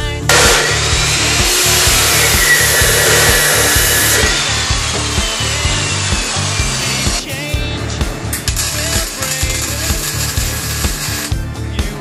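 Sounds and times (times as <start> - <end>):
cut-off saw grinding steel: 0.3 - 7.3, 8.4 - 11.3.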